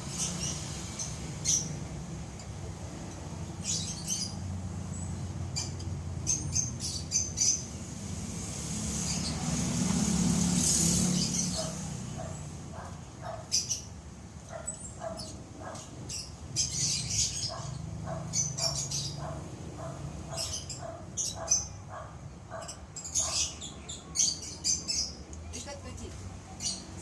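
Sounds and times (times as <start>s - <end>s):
lovebirds chirping: 0.0s - 7.9s, 10.8s - 27.0s.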